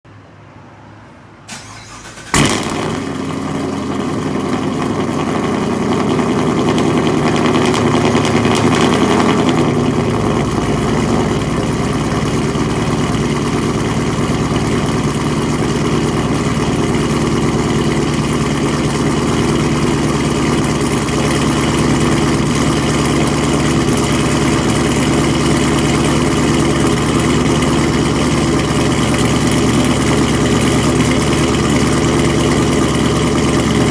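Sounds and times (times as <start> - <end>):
car engine idling: 1.5 - 33.9
exhaust bang: 2.3 - 33.9.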